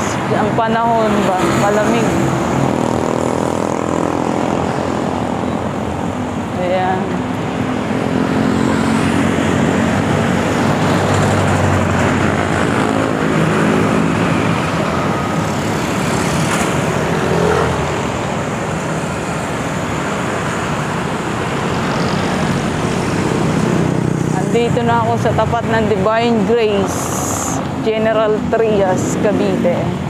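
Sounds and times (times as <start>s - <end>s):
motor vehicle engine hum: 0.0s - 30.0s
wind and road rushing: 0.0s - 30.0s.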